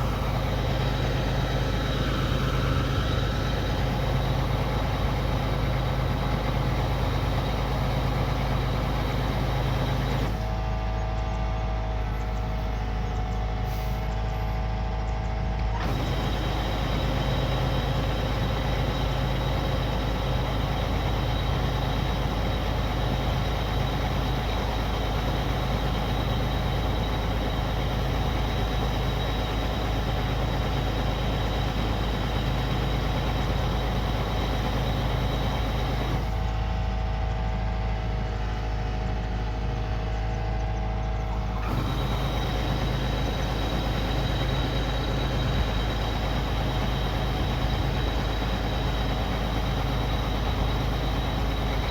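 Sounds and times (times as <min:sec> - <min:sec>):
combine harvester diesel engine: 0:00.0 - 0:51.9.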